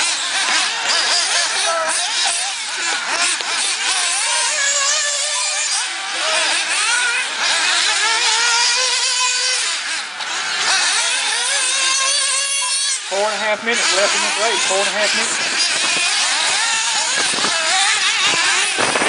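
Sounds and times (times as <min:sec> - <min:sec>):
model car engines whining: 0:00.0 - 0:19.0.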